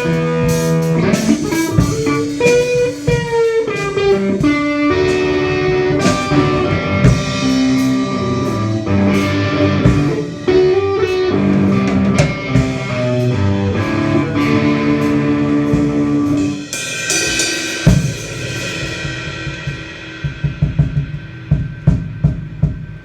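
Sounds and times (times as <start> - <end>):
electric guitar: 0.0 - 22.4
cymbal crash: 0.0 - 23.0
drum kit playing: 0.0 - 23.0.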